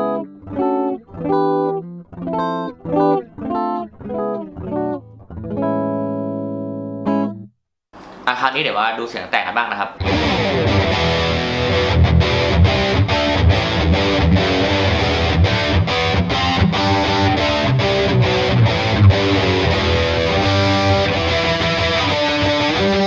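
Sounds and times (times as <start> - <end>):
distorted electric guitar riff: 0.0 - 7.5, 10.0 - 23.0.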